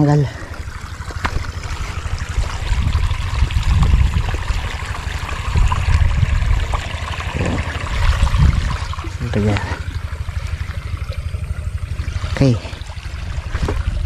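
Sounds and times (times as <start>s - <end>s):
low uneven rumble: 0.0s - 14.0s
water rushing along ditch: 0.0s - 14.0s.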